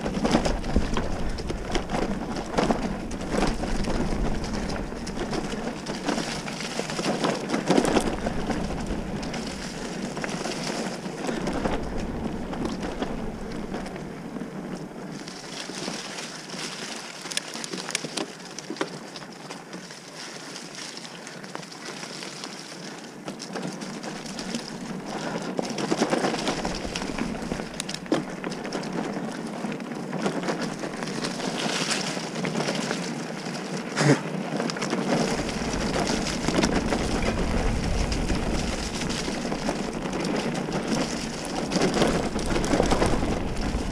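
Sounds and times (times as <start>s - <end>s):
bike rattling over bumps: 0.0s - 20.0s, 20.8s - 43.9s
bike tyres crunching on gravel: 0.0s - 43.9s.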